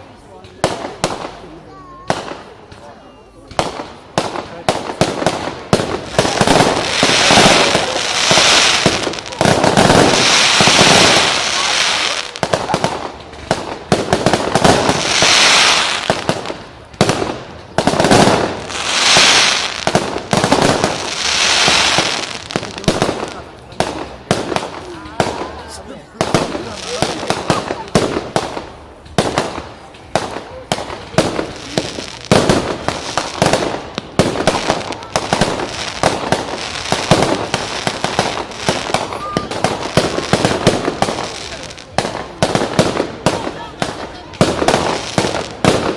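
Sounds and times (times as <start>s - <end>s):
fireworks bangs: 0.0s - 45.9s
loud fireworks hiss: 0.0s - 45.9s.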